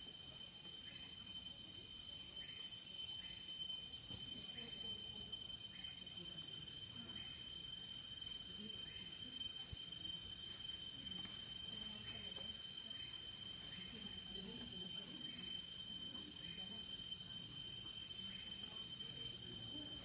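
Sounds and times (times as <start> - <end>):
insects buzzing shrilly: 0.0 - 20.0.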